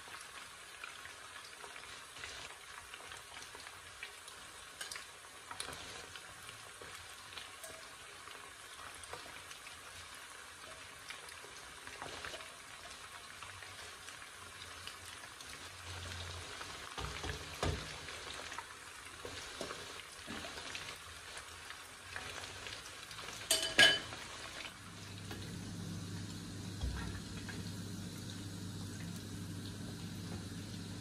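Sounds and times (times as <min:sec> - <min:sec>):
chicken deep-frying in oil: 0:00.0 - 0:31.0.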